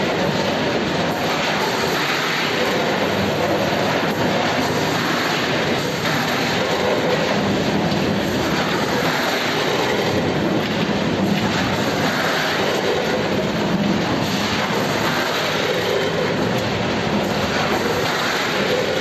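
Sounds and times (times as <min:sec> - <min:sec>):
packaging machine rattling clatter: 0:00.0 - 0:19.0.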